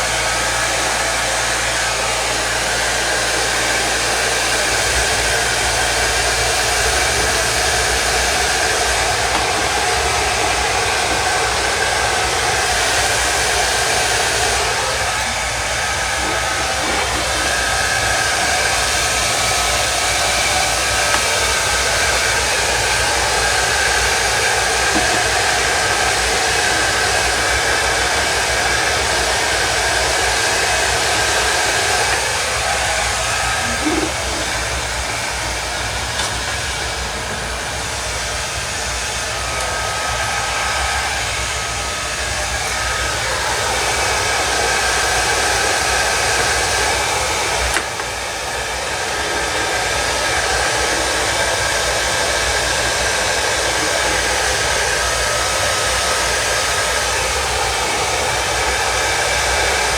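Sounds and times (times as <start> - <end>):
heat gun hissing: 0.0 - 59.9.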